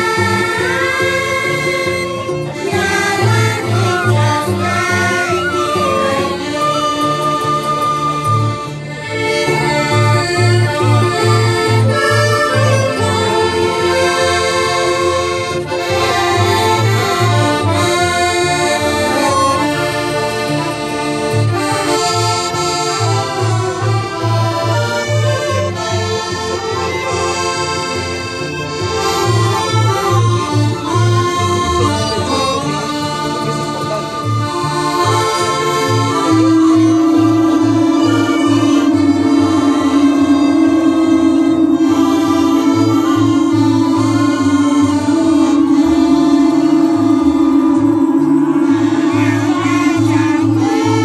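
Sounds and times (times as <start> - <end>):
accordions: 0.0 - 51.0
bass beat: 0.0 - 51.0
folk ensemble playing: 0.0 - 51.0
violin: 0.0 - 51.0.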